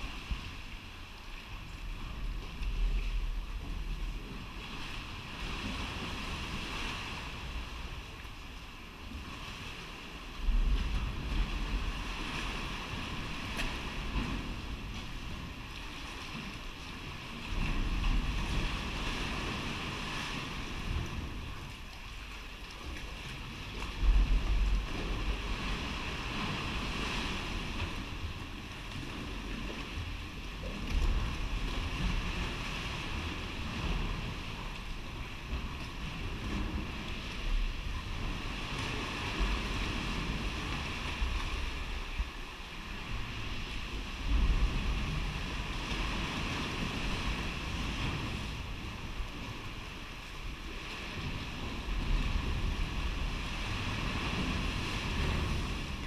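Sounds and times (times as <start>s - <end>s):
wind noise on microphone: 0.0s - 56.0s.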